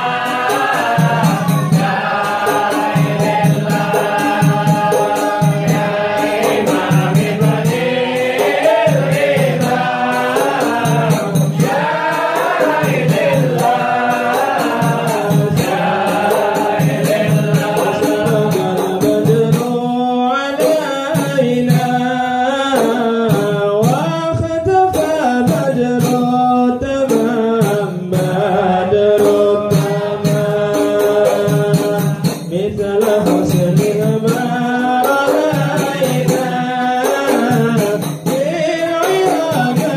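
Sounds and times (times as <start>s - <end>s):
frame drums beating: 0.0s - 39.9s
men singing together: 0.0s - 39.9s.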